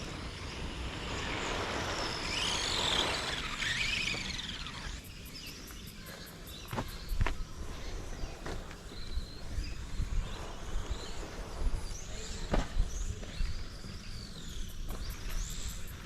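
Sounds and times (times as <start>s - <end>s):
rc car motor whine: 0.0s - 16.0s
tyres on dirt: 0.0s - 16.0s.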